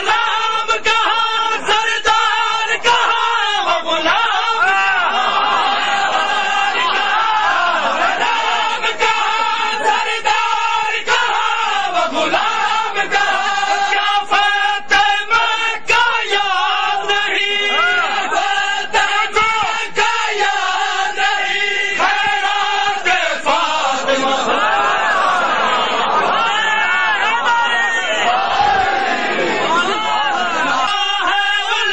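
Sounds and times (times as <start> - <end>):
men chanting together: 0.0 - 31.9.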